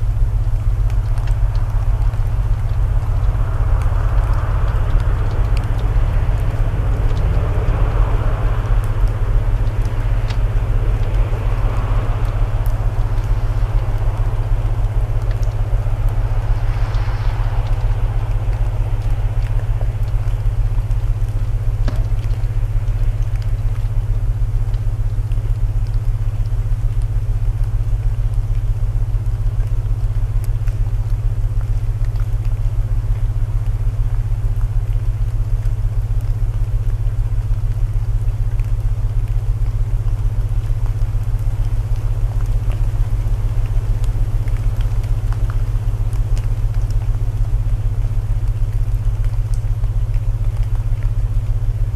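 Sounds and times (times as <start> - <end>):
rain hiss: 0.0 - 51.9
wood crackling in fireplace: 0.0 - 51.9.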